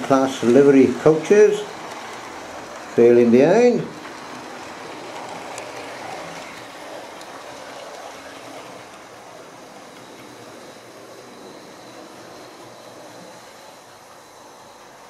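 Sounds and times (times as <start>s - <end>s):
model train wheels on rails: 0.0s - 15.0s.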